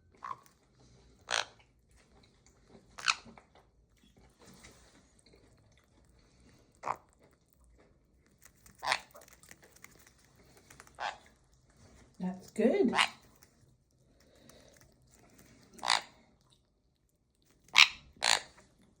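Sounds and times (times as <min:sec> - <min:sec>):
parrot crunching food: 0:00.0 - 0:19.0.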